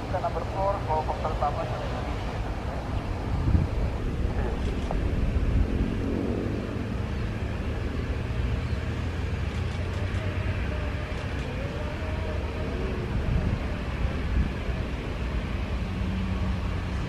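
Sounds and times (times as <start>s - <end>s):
wind buffeting microphone: 2.2s - 17.0s.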